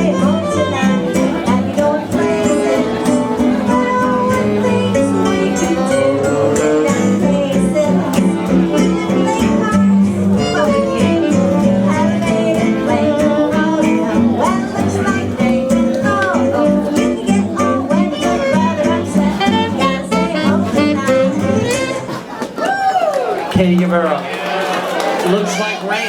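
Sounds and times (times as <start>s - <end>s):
swing jazz band playing: 0.0s - 22.5s.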